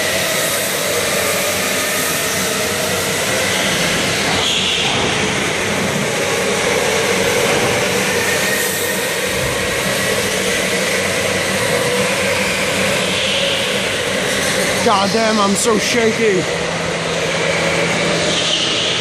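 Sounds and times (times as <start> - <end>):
electric go-kart motors whining: 0.0 - 19.0
tyre and machine noise: 0.0 - 19.0.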